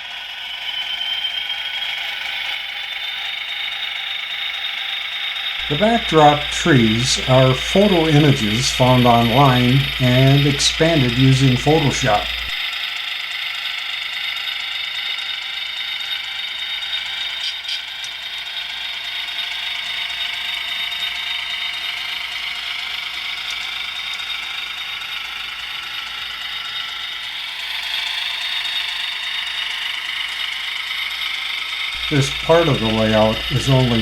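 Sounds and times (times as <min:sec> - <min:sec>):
model train motor whirring: 0:00.0 - 0:34.0.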